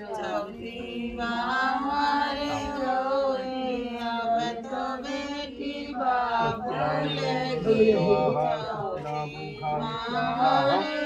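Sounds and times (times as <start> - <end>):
melodic chanting: 0.0 - 11.0.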